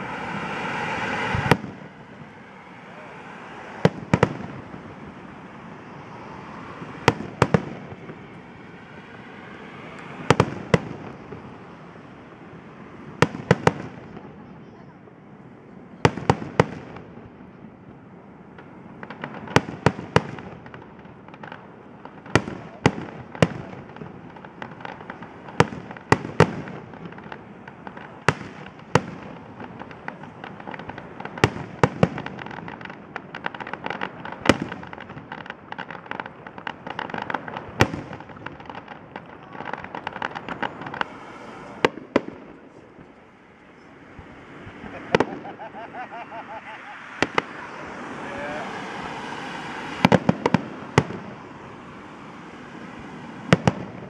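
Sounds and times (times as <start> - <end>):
fireworks crackle: 0.0 - 14.8, 15.8 - 54.0.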